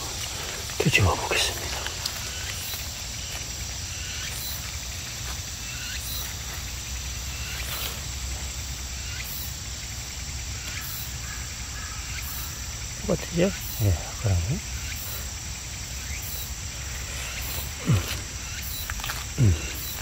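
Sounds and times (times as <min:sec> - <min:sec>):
higher pulsing insect call: 0:00.0 - 0:20.0
insects chirring: 0:00.0 - 0:20.0.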